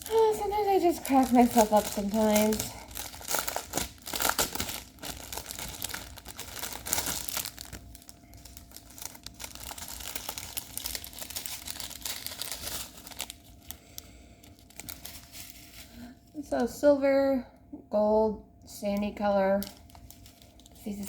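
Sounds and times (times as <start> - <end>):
plastic bags crinkling: 0.0 - 16.6, 19.3 - 21.0.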